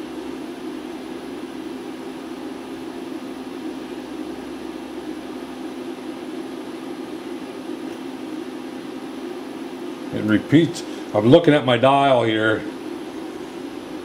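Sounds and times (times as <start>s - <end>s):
milling machine hum: 0.0s - 14.0s.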